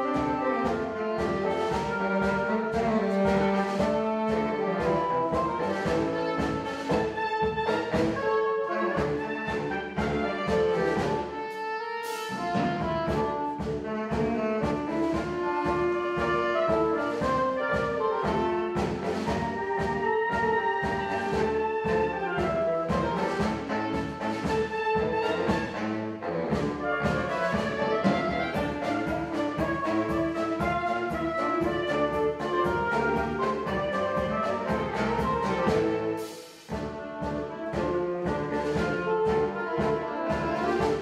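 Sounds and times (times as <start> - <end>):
drum kit beat: 0.0 - 41.0
saxophones playing in harmony: 0.0 - 41.0.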